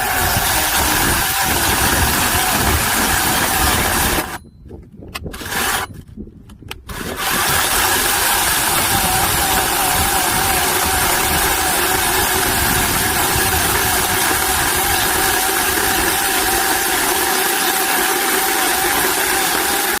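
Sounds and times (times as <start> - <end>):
chainsaw running: 0.0 - 4.4, 5.3 - 6.0, 6.8 - 20.0.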